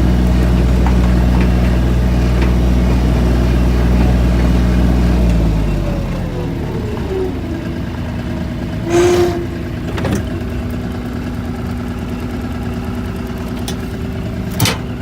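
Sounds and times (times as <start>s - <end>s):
loader engine running: 0.0s - 15.0s.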